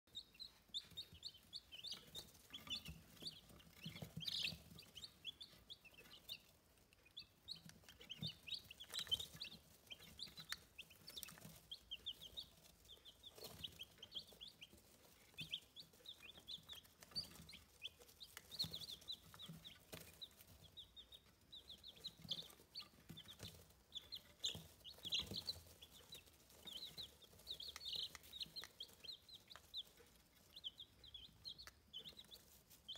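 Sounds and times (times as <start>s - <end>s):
chicks peeping: 0.1s - 32.9s.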